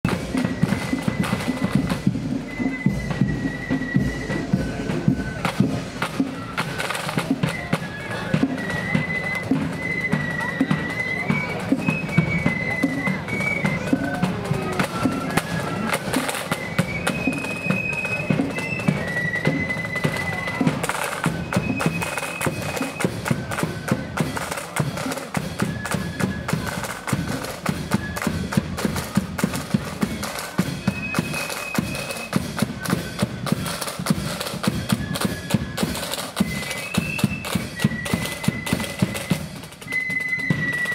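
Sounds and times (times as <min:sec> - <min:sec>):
flutes playing melody: 0:00.0 - 0:40.9
snare and bass drums: 0:00.0 - 0:40.9.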